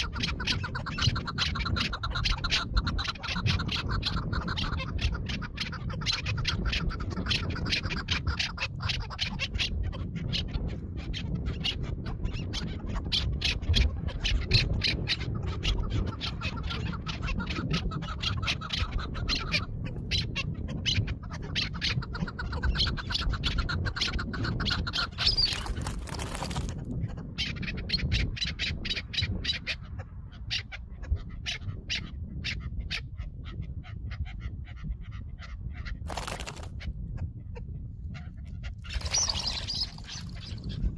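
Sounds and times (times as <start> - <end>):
partridge rapid clucking calls: 0.0 - 40.9.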